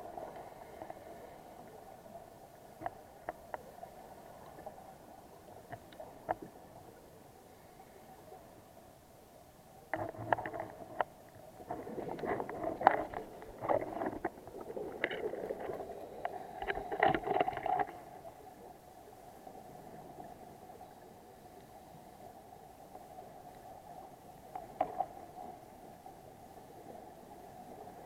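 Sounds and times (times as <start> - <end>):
faint underwater hum: 0.0 - 28.0.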